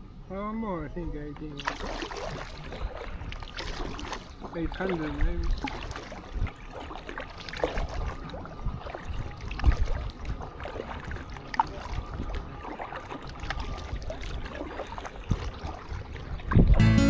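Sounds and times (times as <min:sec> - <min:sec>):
paddle pulling through water: 0:00.4 - 0:16.8
small water splashes and drips: 0:01.2 - 0:16.8.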